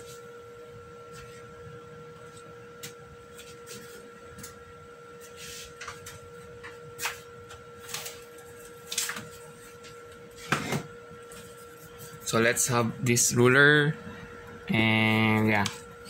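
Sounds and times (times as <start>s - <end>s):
faint electrical whine: 0.0s - 16.0s.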